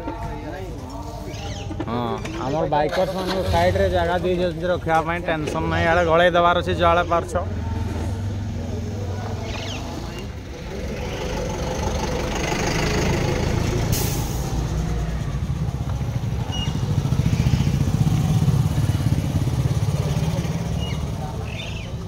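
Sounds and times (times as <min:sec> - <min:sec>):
motorcycles passing by: 0:02.5 - 0:22.0.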